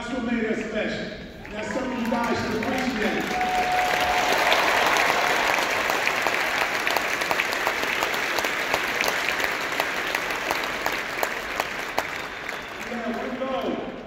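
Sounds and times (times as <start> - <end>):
crowd applauding: 1.4 - 14.0.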